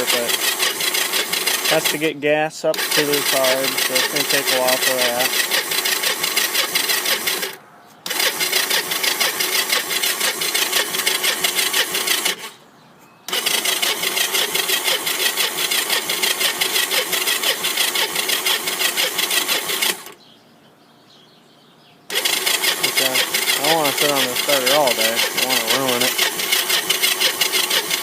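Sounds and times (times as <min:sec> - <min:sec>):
engine cranking on electric starter: 0:00.0 - 0:12.6, 0:13.3 - 0:20.2, 0:22.1 - 0:28.0.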